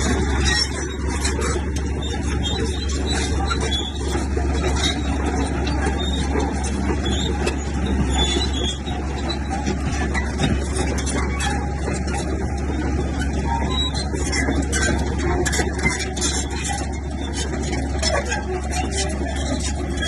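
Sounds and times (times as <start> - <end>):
bulldozer diesel engine running: 0.0 - 20.0
clanks of tracks and stones: 0.0 - 20.0.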